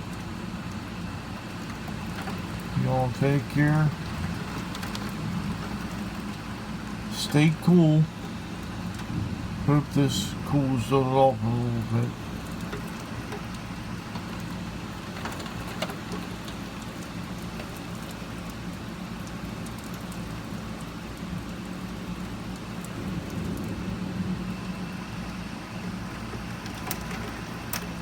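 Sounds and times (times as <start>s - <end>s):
low steady hum: 0.0s - 28.0s
steady rain hiss: 0.0s - 28.0s.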